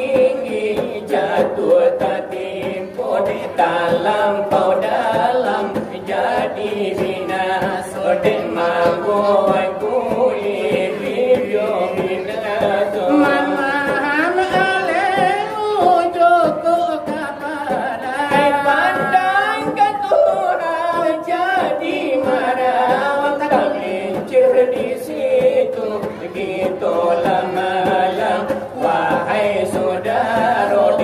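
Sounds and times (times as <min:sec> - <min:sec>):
voices chanting a devotional melody: 0:00.0 - 0:31.0.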